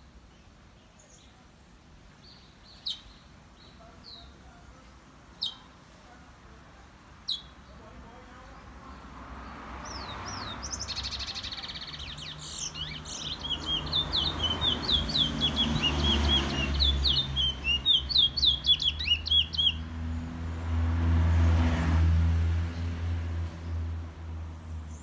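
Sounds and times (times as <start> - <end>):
songbird singing: 0.0 - 21.7, 22.5 - 25.0.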